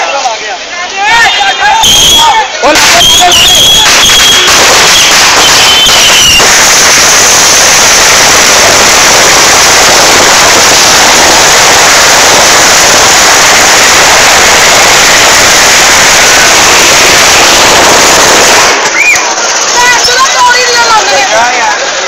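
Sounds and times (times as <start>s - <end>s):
firecrackers crackling: 1.1s - 22.0s.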